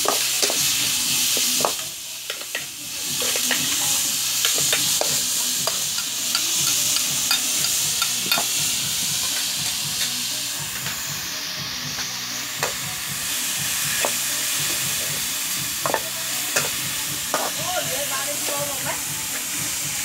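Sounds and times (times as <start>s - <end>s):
chicken sizzling in a wok: 0.0s - 20.0s.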